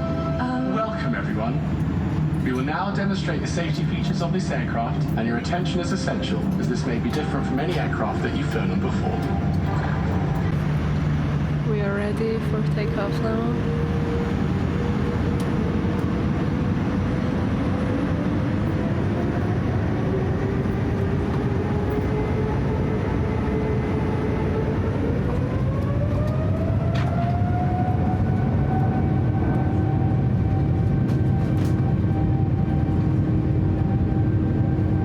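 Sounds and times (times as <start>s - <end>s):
jet engines rumbling and whining: 0.0s - 35.0s.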